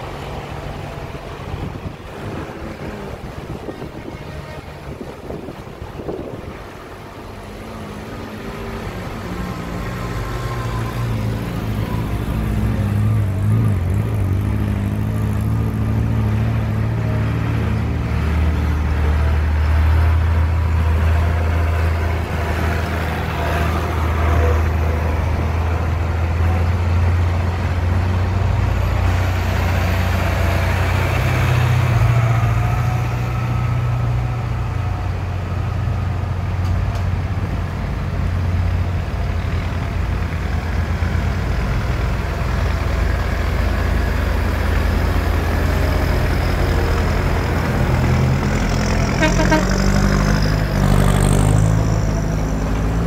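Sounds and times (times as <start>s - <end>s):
tractor diesel engines passing: 0.0s - 53.0s.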